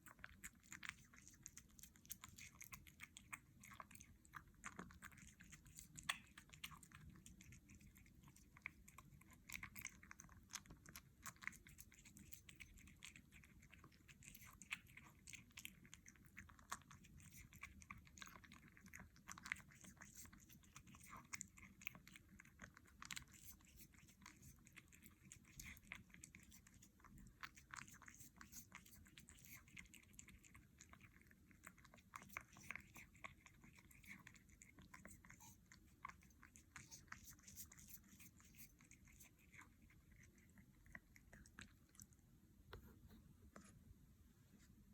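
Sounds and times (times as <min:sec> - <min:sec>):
kitten chewing wet food: 0:00.0 - 0:44.9.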